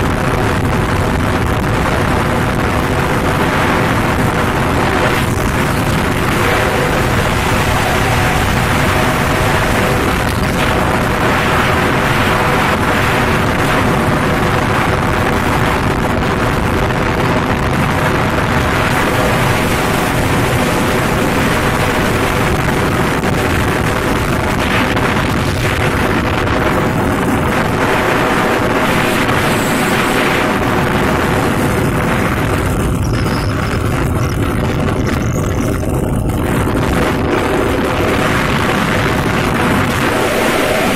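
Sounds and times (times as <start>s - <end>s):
motorcycle engine hum: 0.0s - 40.9s
wind buffeting microphone: 0.0s - 40.9s.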